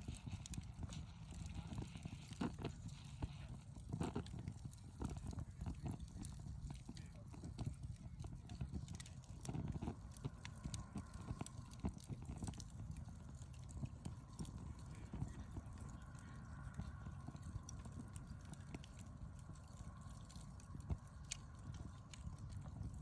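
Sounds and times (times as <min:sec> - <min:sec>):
campfire crackling and popping: 0:00.0 - 0:23.0
low steady rumble: 0:00.0 - 0:23.0.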